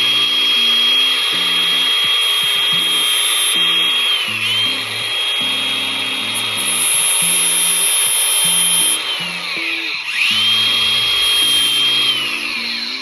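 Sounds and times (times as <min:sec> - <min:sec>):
power tool grinding whine: 0:00.0 - 0:13.0.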